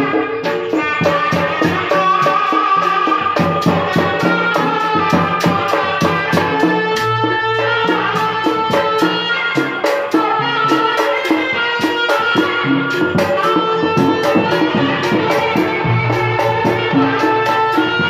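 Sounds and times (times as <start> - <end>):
held melody line: 0.0 - 18.0
quick drum beat: 0.0 - 18.0.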